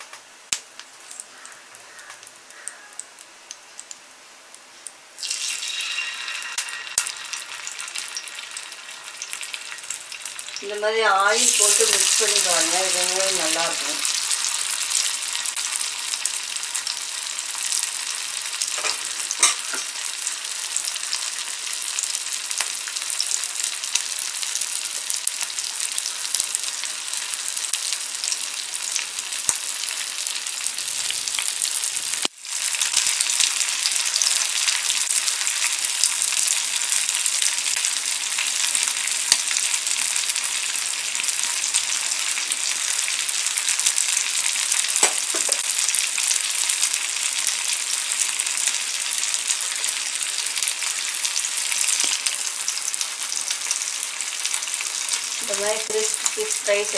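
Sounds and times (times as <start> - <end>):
fish sizzling in oil: 0.0 - 56.9.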